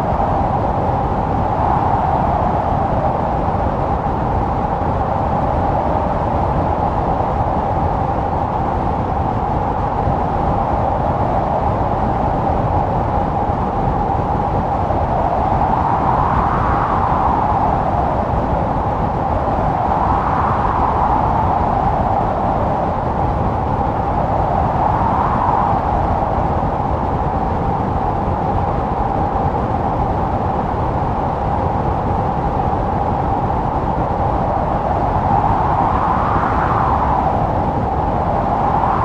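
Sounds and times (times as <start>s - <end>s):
blizzard wind howling: 0.0s - 39.0s.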